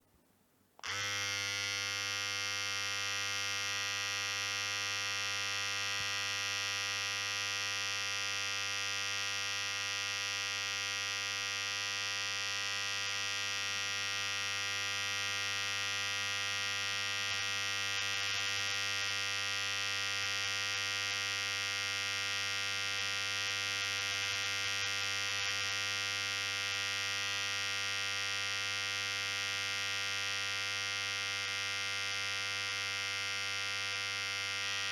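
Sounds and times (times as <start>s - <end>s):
electric hair clipper buzzing: 0.8s - 34.9s.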